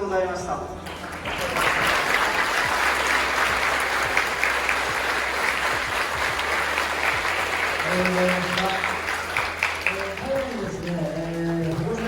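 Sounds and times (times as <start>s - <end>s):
large audience applauding: 0.8s - 12.0s.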